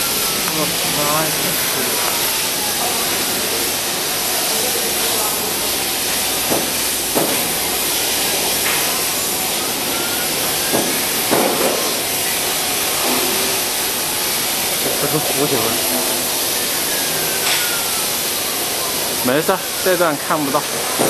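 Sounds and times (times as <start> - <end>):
workshop machinery hiss: 0.0 - 21.0.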